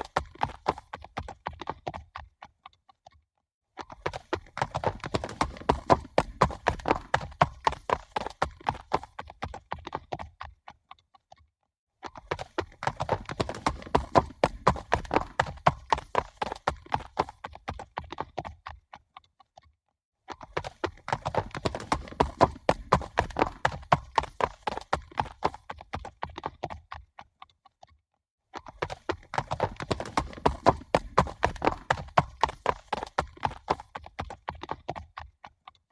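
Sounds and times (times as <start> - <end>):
horses galloping: 0.0 - 2.3, 3.8 - 10.5, 12.0 - 18.8, 20.3 - 27.0, 28.6 - 35.5.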